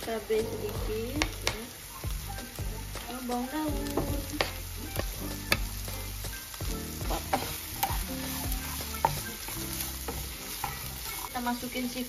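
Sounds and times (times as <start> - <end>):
vegetables sizzling in oil: 0.0 - 12.0
spatula scraping and tapping pan: 0.7 - 3.1, 3.7 - 11.4.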